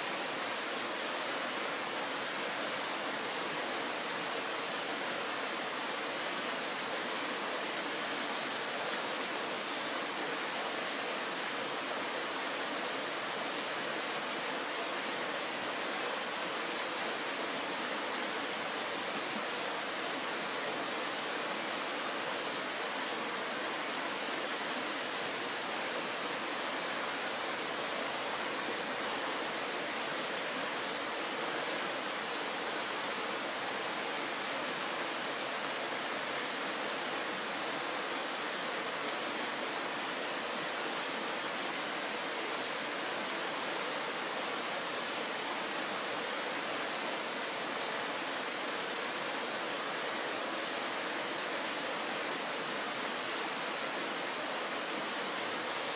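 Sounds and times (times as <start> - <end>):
stream rushing over stones: 0.0 - 55.9.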